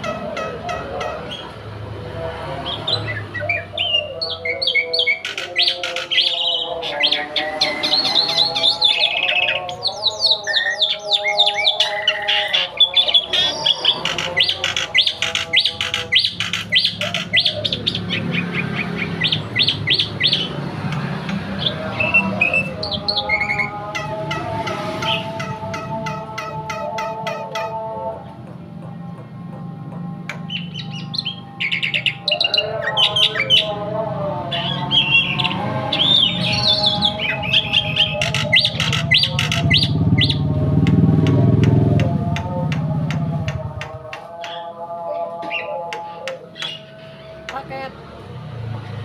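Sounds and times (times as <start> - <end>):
starling singing: 0.0 - 49.0.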